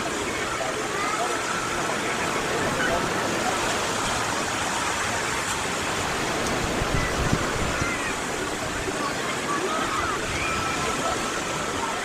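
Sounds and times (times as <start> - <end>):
surf hissing onto shore: 0.0 - 12.0.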